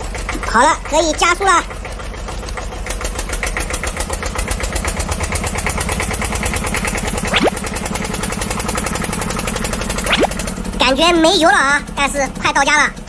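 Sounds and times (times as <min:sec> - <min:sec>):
small engine puttering: 0:00.0 - 0:13.0.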